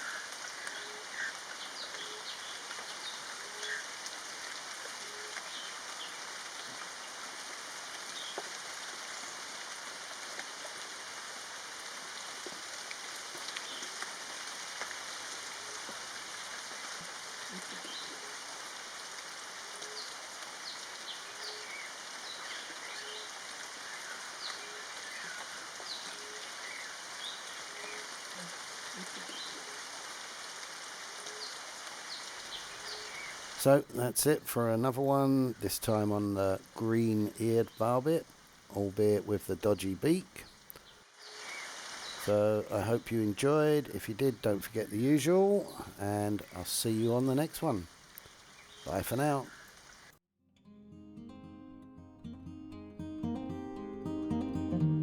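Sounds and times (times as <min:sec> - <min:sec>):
steady hiss: 0:00.0 - 0:50.2.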